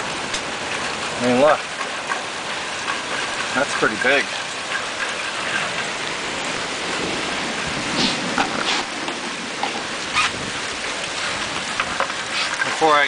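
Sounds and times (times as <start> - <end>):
heavy rain and hail hissing: 0.0 - 13.0.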